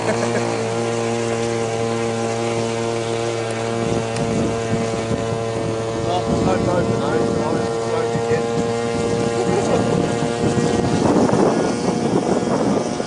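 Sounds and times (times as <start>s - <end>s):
model aircraft engine running: 0.0s - 13.0s.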